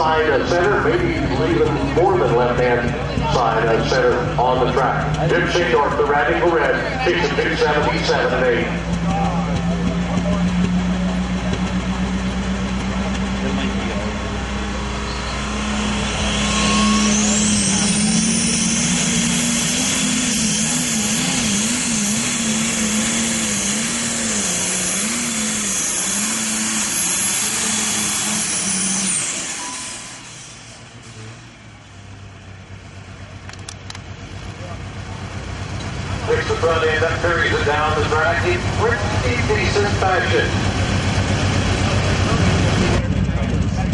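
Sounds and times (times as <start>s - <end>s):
high turbo whine: 0.0s - 43.9s
tractor diesel engine at full power: 0.0s - 43.9s.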